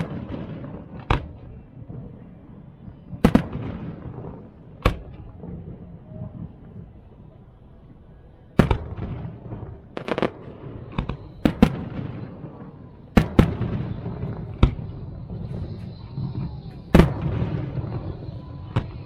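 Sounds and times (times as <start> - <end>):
fireworks bangs: 0.0 - 7.3, 8.6 - 19.0.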